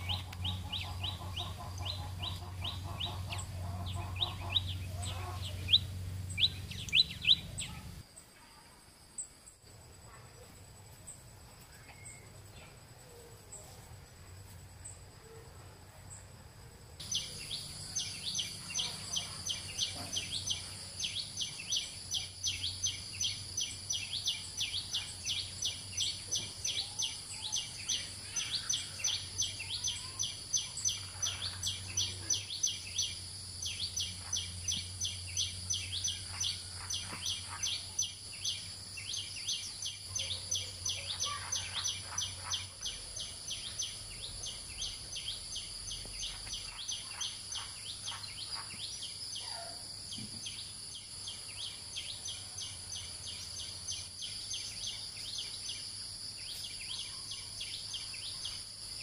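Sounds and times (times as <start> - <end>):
rustling leaves and plants: 0.0 - 59.0.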